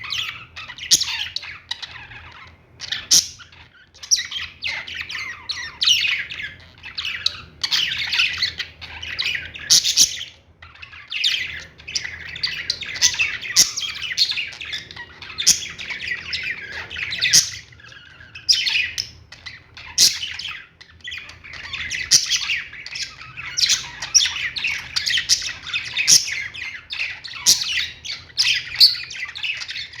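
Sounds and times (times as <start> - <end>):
birds chirping and squawking: 0.0 - 30.0
sharp loud bird calls: 0.0 - 30.0.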